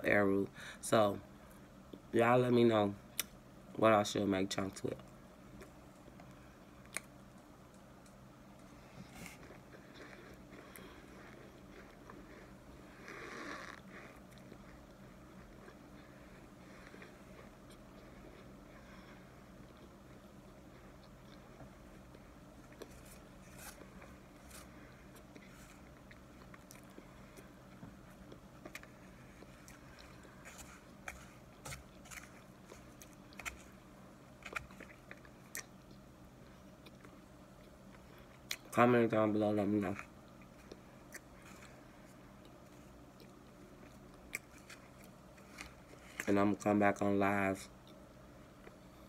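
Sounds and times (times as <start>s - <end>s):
faint chewing with crunches: 4.9s - 49.0s.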